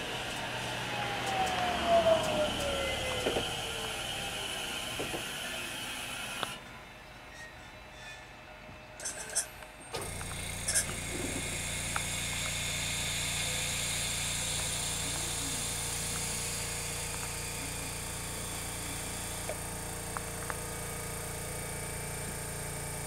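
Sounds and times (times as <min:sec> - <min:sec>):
electrical hum with high whine: 0:00.0 - 0:23.0.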